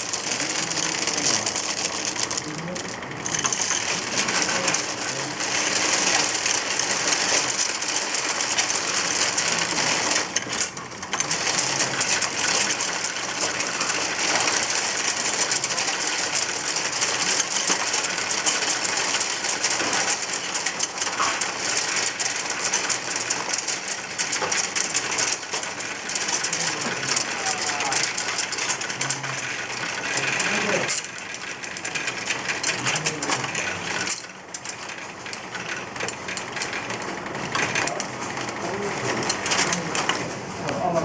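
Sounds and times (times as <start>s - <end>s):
plastic tiles clattering: 0.0s - 40.3s.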